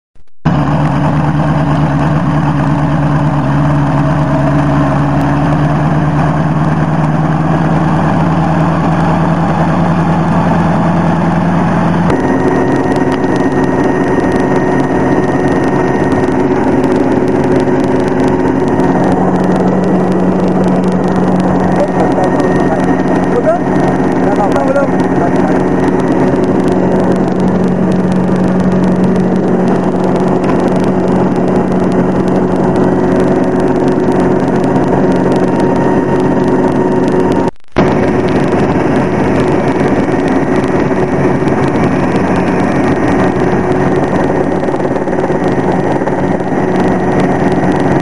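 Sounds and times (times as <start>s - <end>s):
engine drone inside cockpit: 0.5s - 48.0s
helicopter engine and rotor: 0.5s - 48.0s.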